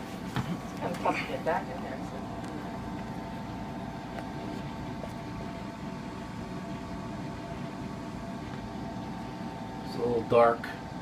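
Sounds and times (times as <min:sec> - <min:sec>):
air conditioner humming: 0:00.0 - 0:11.0
thin constant whine: 0:00.0 - 0:11.0.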